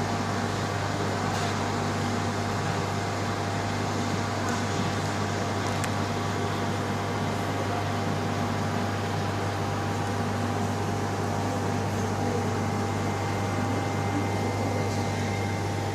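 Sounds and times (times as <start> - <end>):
aquarium pumps humming and hissing: 0.0 - 15.9.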